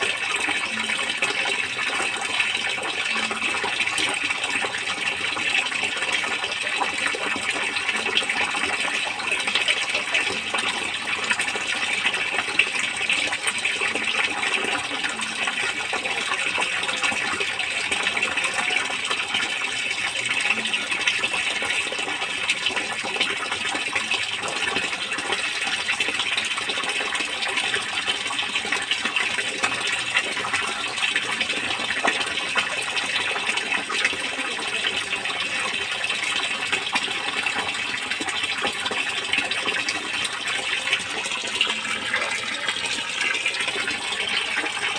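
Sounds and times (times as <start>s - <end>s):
water splashing and rushing in a tank: 0.0s - 44.9s.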